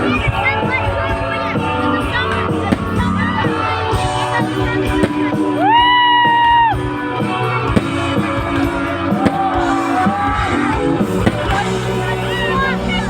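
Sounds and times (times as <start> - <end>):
live concert music with beat: 0.0 - 13.0.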